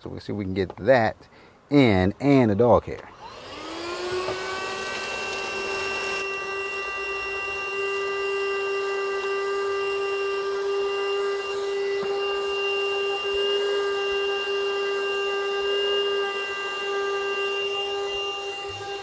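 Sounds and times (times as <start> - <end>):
vacuum cleaner whining: 3.1 - 19.0.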